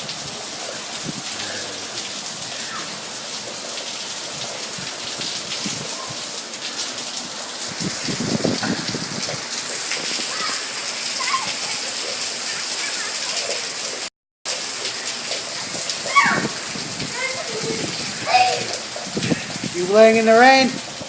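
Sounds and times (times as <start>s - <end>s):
rain on hard ground: 0.0s - 21.0s.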